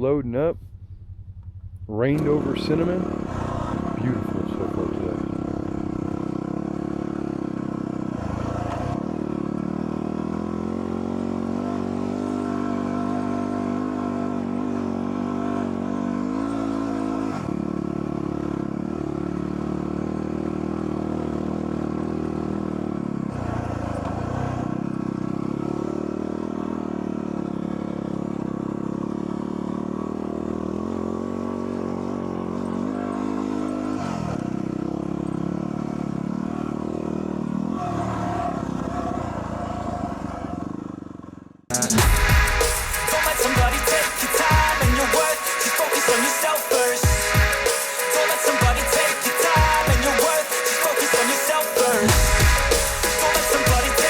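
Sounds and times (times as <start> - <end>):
motorcycle engine revving: 0.3 - 54.0.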